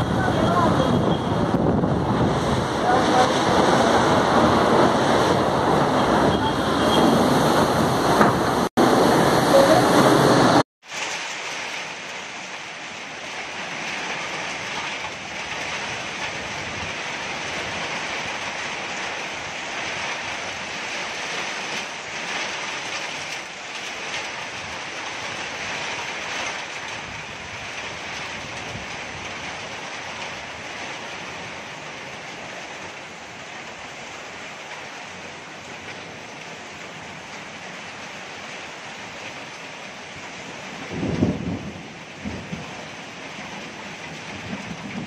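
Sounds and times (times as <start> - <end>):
heavy rain pouring: 0.0 - 45.0
wind gusting through trees: 0.0 - 45.0.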